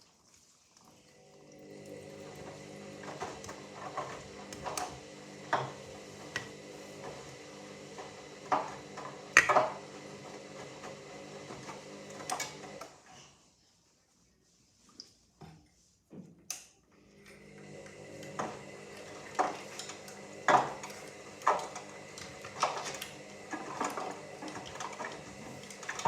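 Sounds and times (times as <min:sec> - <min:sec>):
washing machine motor hum: 0:00.8 - 0:13.0, 0:17.0 - 0:26.0.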